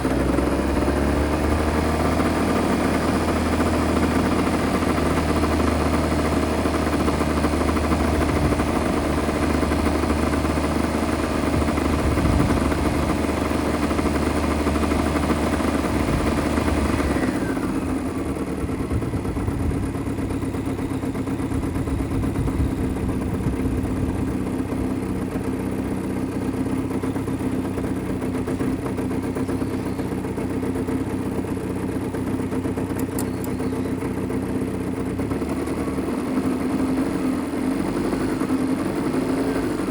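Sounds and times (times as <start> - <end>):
two-stroke car engine running: 0.0 - 39.9.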